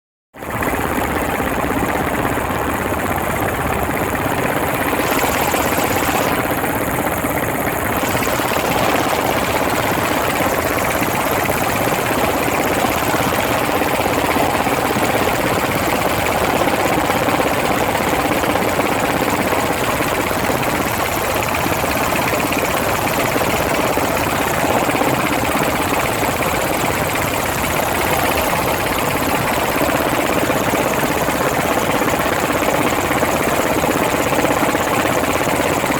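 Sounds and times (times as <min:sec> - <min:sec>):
helicopter engine and rotor drone: 0:00.4 - 0:35.9.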